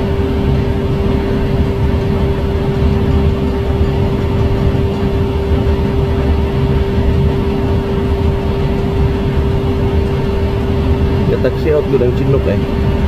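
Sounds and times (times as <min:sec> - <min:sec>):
helicopter rotors rumbling: 0:00.0 - 0:13.0
turbine engine whine: 0:00.0 - 0:13.0.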